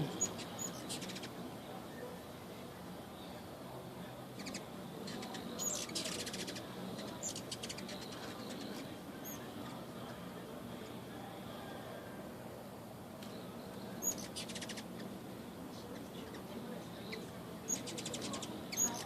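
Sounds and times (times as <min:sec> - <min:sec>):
hummingbirds chattering: 0:00.0 - 0:19.0.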